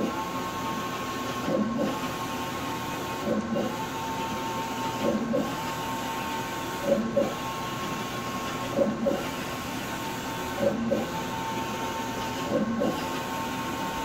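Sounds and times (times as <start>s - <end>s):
printer carriage motor whine: 0.0s - 14.0s.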